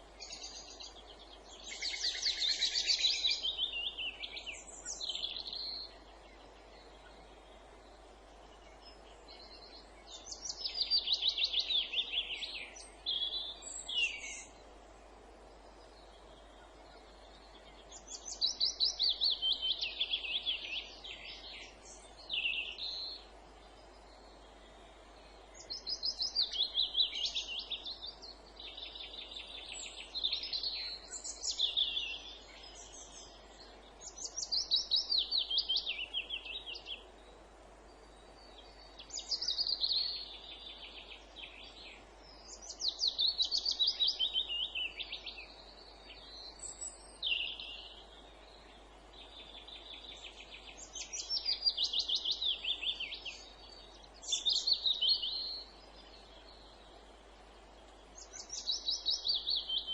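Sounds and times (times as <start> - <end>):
faint steady hiss: 0.0 - 59.9
songbird singing: 0.0 - 59.9.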